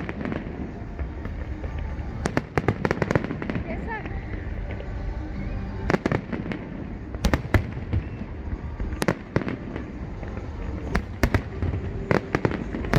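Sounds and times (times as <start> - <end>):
fireworks bangs: 0.0 - 12.9.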